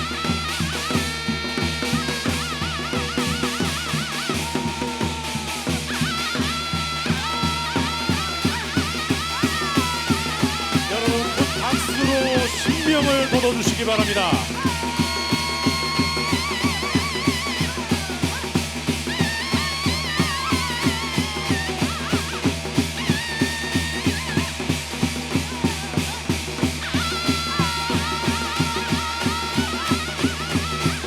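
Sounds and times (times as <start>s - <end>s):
drums beating fast rhythm: 0.0s - 31.0s.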